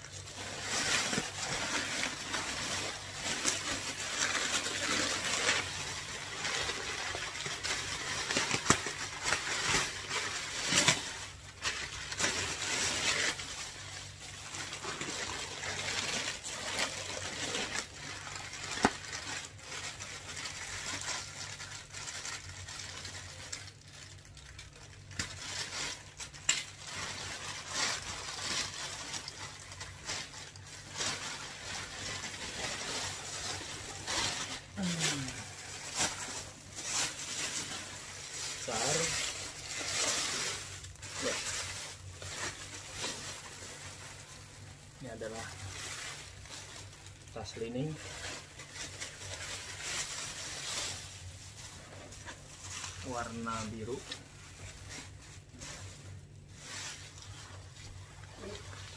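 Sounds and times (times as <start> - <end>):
plastic packaging crinkling: 0.0 - 58.9.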